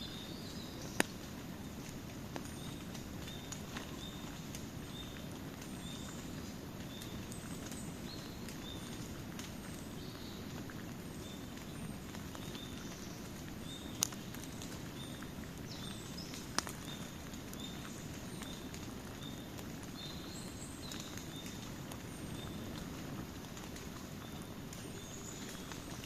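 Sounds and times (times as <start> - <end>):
campfire crackling: 0.0 - 26.0
fire popping loudly: 0.8 - 26.0.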